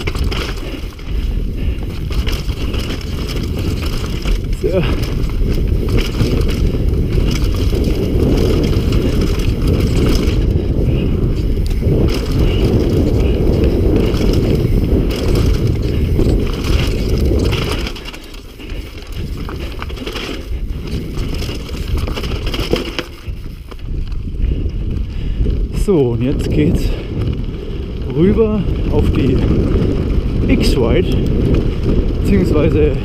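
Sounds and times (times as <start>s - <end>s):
tyres rumbling on dirt: 0.0s - 23.9s, 24.5s - 33.0s
bike clattering: 0.0s - 33.0s
wind buffeting camera: 0.0s - 33.0s.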